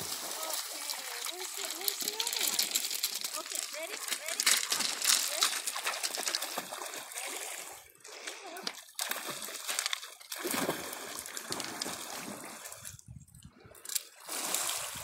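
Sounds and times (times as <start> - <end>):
small waves on pebble shore: 0.0 - 12.8, 14.2 - 15.0
water splashing as dog swims: 0.0 - 13.0.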